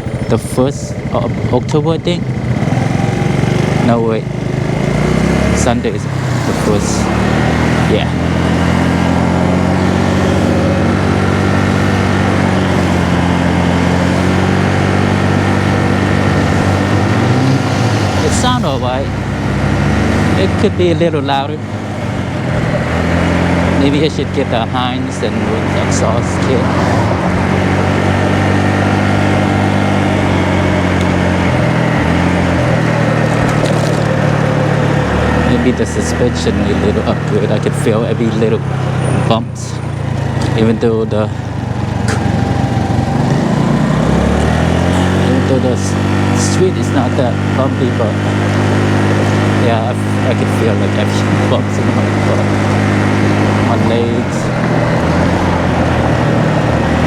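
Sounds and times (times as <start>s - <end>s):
small motorcycle engine running: 0.0s - 57.0s
wind and road noise: 0.0s - 57.0s.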